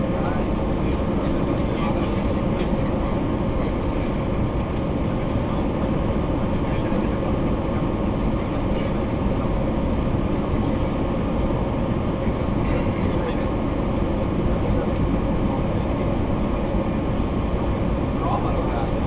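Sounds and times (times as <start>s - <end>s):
airplane cabin roar: 0.0s - 19.0s.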